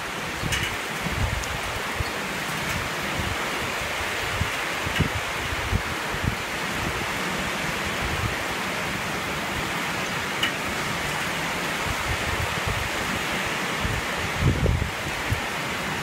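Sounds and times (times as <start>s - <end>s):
strong wind blowing: 0.0s - 16.0s
wind buffeting microphone: 0.2s - 8.5s, 9.4s - 16.0s.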